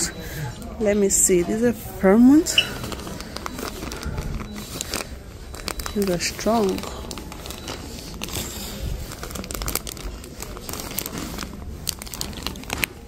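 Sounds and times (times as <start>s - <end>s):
plastic packaging crinkling: 2.4s - 13.0s.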